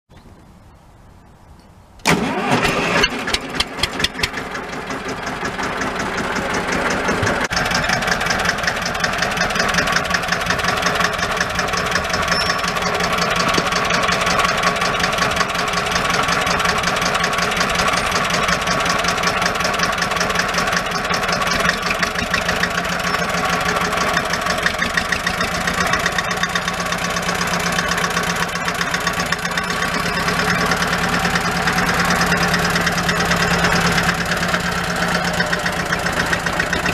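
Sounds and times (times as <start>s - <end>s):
diesel engine running: 2.1s - 36.9s.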